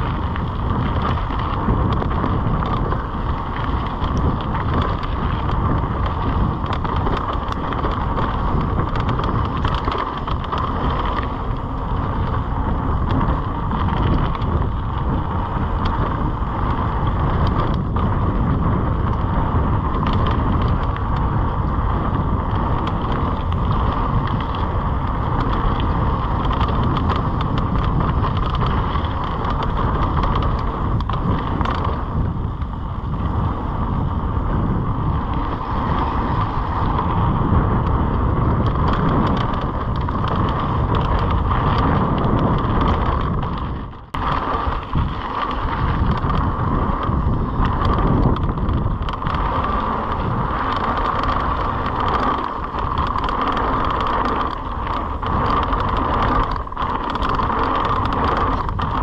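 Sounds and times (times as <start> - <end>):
bike tyres on dirt: 0.0 - 59.0
wind rushing over microphone: 0.0 - 59.0.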